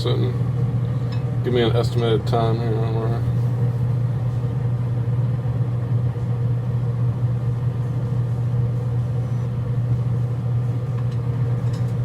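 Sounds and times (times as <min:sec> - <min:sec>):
smoker fan humming: 0:00.0 - 0:12.0.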